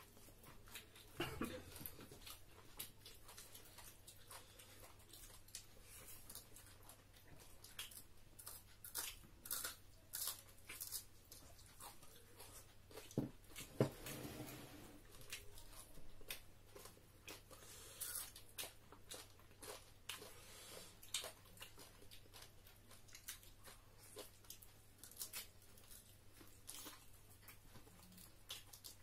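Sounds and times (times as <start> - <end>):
chewing and lip smacks: 0.0 - 13.7, 15.1 - 29.0.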